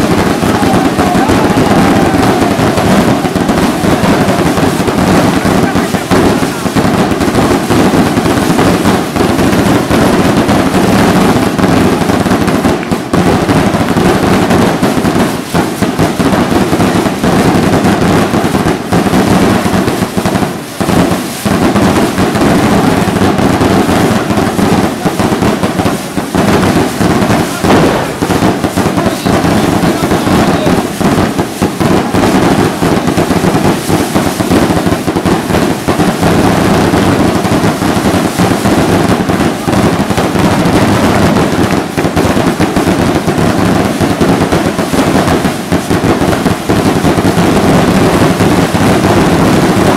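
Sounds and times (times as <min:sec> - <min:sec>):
fireworks banging and crackling: 0:00.0 - 0:49.9.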